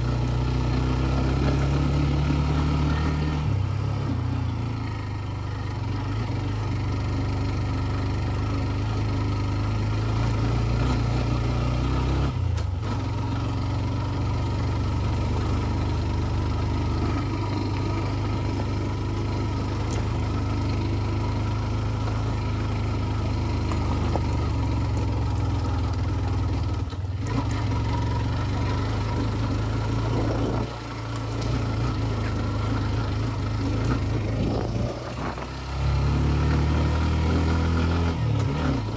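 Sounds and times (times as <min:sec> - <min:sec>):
scooter engine running: 0:00.0 - 0:38.9.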